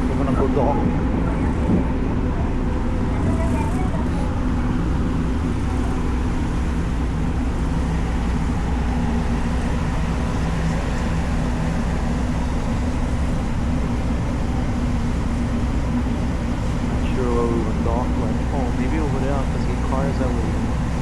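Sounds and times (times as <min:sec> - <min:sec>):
ship diesel engines droning: 0:00.0 - 0:21.0.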